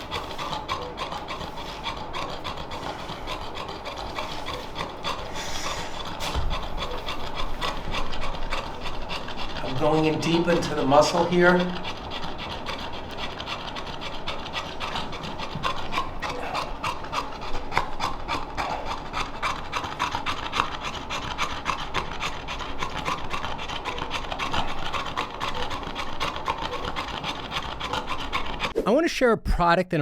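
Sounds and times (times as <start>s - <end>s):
dog panting: 0.0s - 28.8s.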